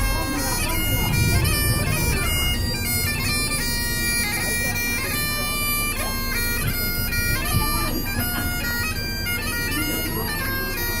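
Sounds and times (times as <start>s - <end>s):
bagpipes playing a melody: 0.0s - 11.0s.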